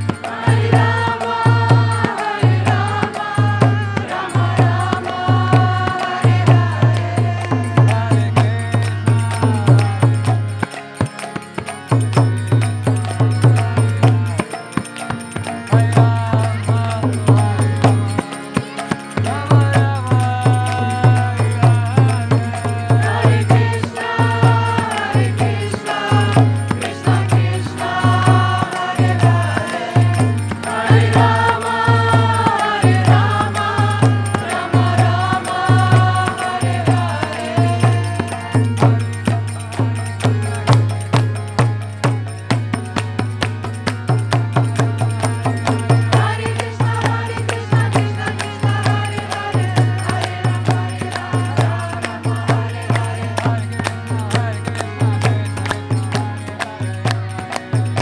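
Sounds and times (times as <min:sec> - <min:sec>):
voices chanting: 0:00.0 - 0:10.1, 0:13.2 - 0:41.9, 0:44.6 - 0:58.0.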